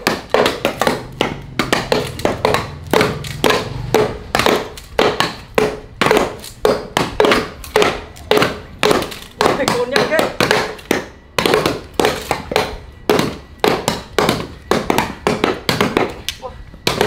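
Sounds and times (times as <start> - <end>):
knives and axes chopping wood: 0.0 - 17.0.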